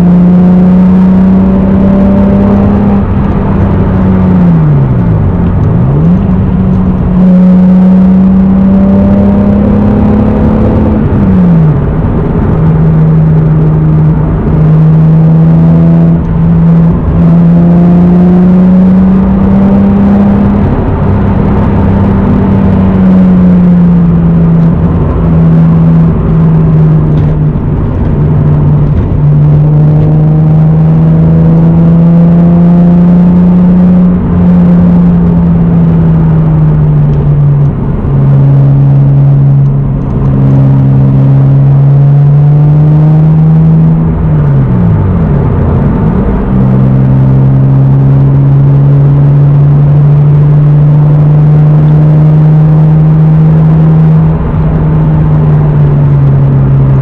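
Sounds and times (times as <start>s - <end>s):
car engine cruising: 0.0s - 57.0s.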